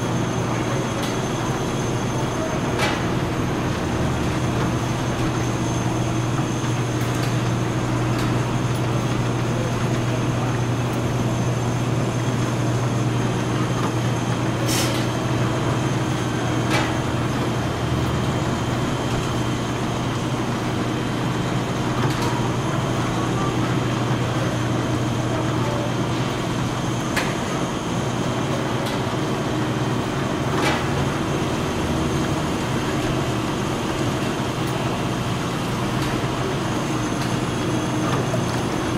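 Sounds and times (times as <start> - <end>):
bottle-filling machine humming: 0.0 - 38.9.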